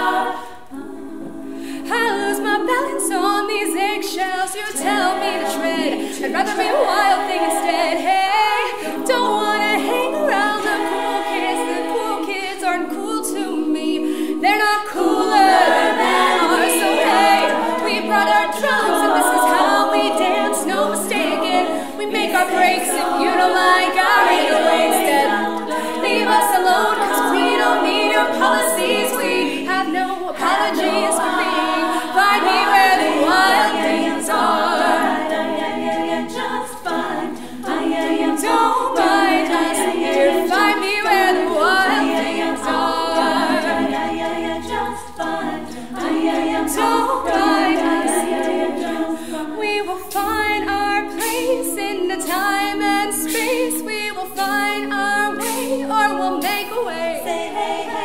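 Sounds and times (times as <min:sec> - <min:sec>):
layered backing voices: 0:00.0 - 0:58.0
woman singing lead vocal: 0:01.7 - 0:58.0.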